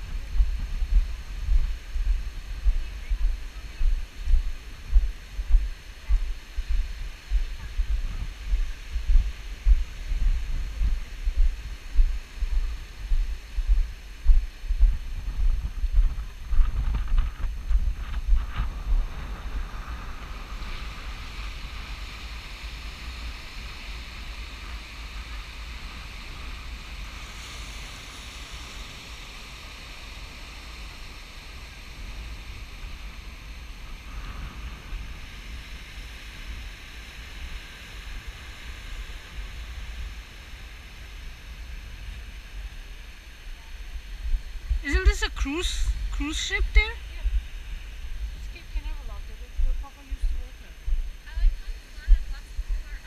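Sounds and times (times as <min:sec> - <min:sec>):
wind buffeting microphone: 0:00.0 - 0:28.3, 0:31.8 - 0:53.0.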